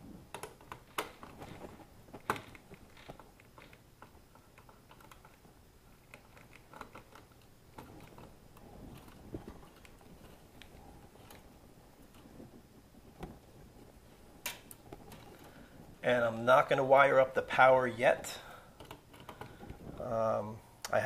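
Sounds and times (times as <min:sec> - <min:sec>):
wires being handled: 0:00.0 - 0:21.0.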